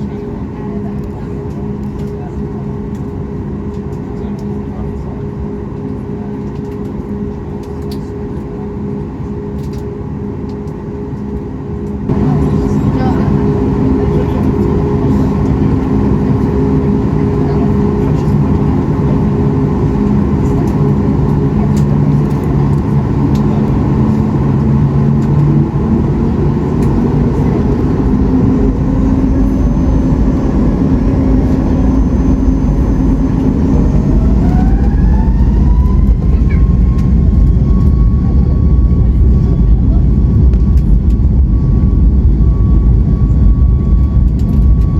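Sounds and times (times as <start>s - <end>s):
jet engine whine: 0.0s - 44.9s.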